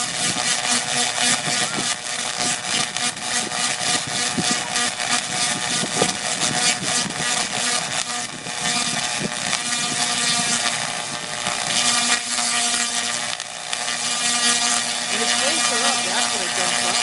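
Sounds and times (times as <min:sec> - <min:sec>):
steady hum: 0:00.0 - 0:17.0
tesla coil sparks crackling: 0:00.0 - 0:17.0.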